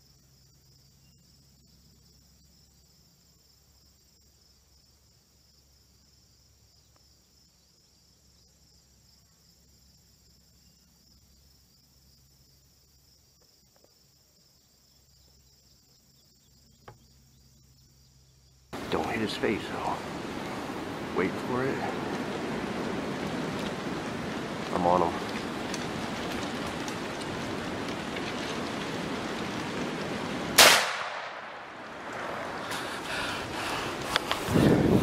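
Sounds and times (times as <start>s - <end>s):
insect chorus trilling: 0.0s - 30.6s.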